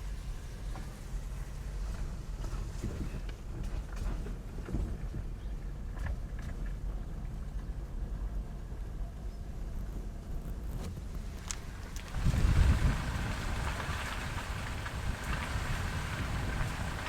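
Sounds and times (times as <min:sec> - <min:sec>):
tyres and engine rumbling: 0:00.0 - 0:17.0.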